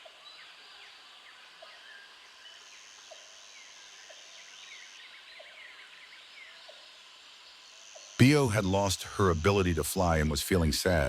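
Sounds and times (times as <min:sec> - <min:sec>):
birds chirping: 0:00.0 - 0:11.0
high insect drone: 0:00.2 - 0:11.0.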